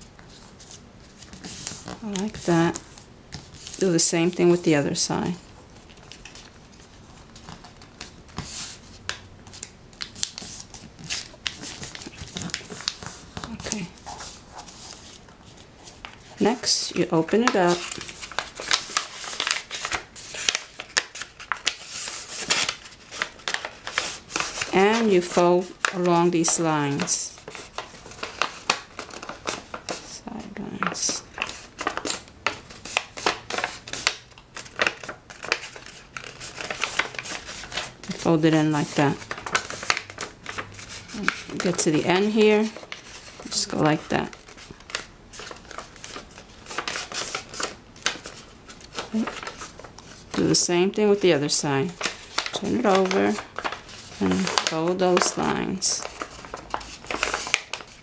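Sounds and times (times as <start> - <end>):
paper being folded and creased: 0.1 - 58.0.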